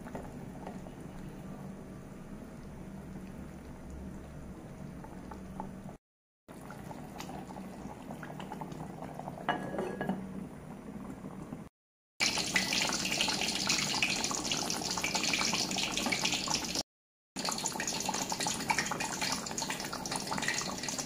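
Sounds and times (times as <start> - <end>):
curry bubbling and popping: 0.0 - 16.4, 17.4 - 21.0.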